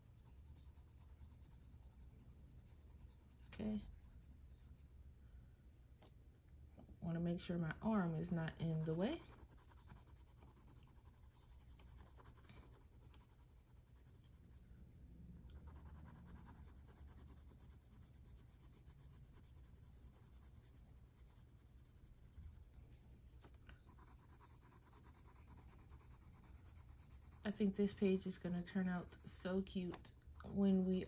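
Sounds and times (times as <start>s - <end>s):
colored pencil scratching on paper: 0.0s - 5.0s, 7.4s - 14.8s, 15.4s - 22.9s, 23.8s - 31.0s.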